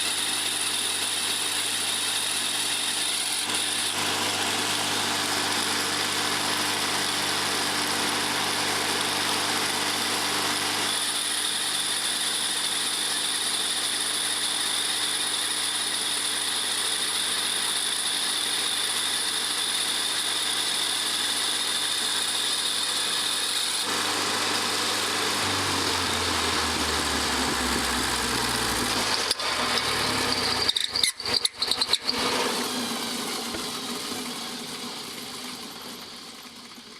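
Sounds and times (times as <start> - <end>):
stump grinder engine: 0.0 - 36.9.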